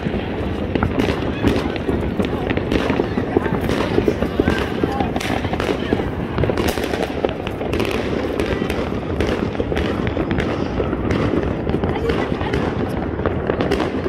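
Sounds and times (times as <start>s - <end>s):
dense fireworks crackle: 0.0s - 14.0s.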